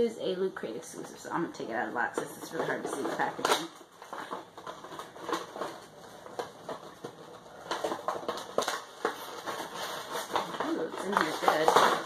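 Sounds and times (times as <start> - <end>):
packaging rustling and crinkling: 1.1 - 12.0.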